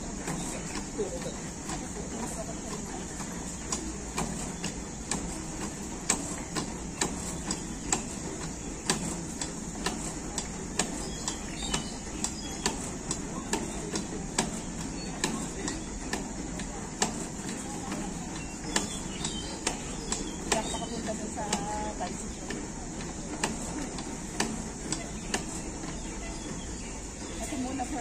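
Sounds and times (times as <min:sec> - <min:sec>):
exercise machine clicking and knocking: 0:00.0 - 0:28.0
steady background noise: 0:00.0 - 0:28.0.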